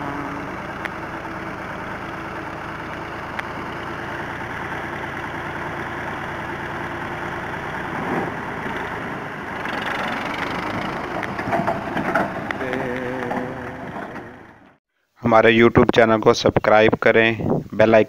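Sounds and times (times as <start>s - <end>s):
tractor engine idling: 0.0s - 14.8s.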